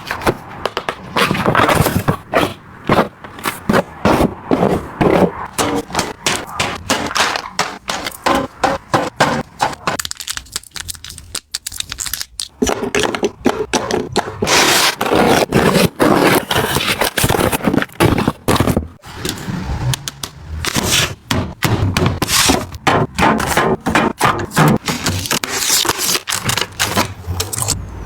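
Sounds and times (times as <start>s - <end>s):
scraping on hard surface: 0.0s - 10.0s, 12.7s - 26.2s
household items clicking and knocking: 0.0s - 14.6s, 15.4s - 27.8s.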